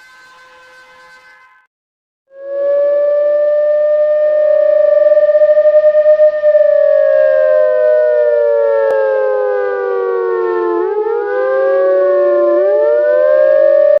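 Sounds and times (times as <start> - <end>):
emergency siren wailing: 2.4 - 14.0.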